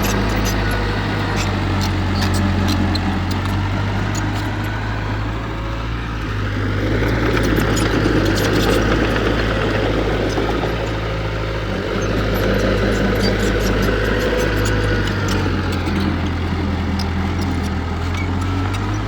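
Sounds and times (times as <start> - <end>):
heavy diesel engine humming: 0.0 - 19.0.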